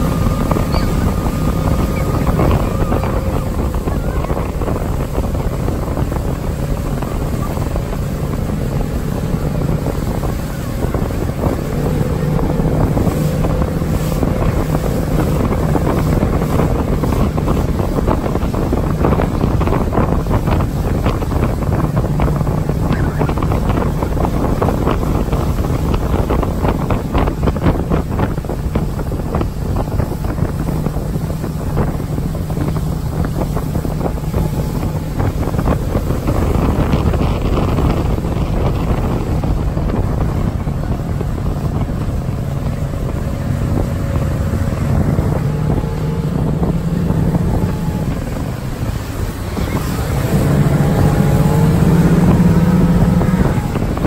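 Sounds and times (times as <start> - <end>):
motorboat engine running: 0.0 - 54.0
wake rushing: 0.0 - 54.0
wind buffeting microphone: 0.0 - 54.0.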